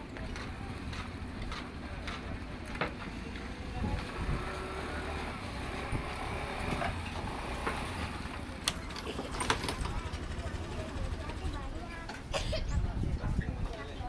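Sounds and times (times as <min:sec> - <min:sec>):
low engine rumble: 0:00.0 - 0:13.8.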